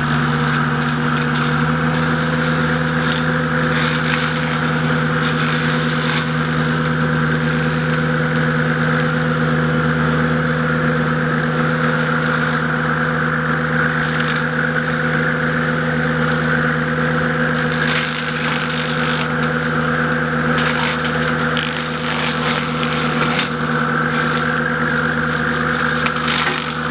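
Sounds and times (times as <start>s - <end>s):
brush crackling as it is cut: 0.0s - 26.9s
mower engine humming and whining: 0.0s - 26.9s.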